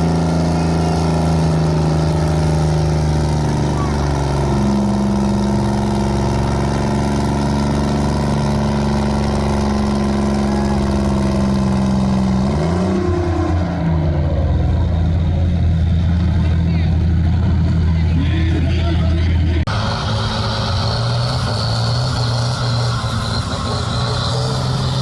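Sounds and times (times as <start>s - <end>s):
tractor engine running hard: 0.0s - 25.0s.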